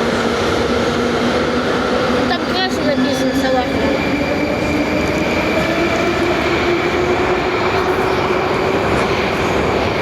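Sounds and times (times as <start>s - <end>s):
metro train rumbling: 0.0s - 10.0s
train high whine: 0.0s - 10.0s.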